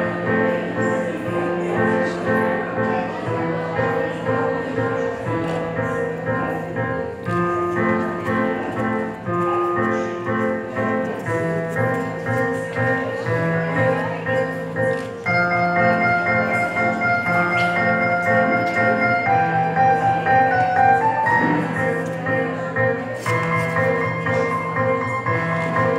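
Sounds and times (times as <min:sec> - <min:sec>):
instrumental music: 0:00.0 - 0:25.9.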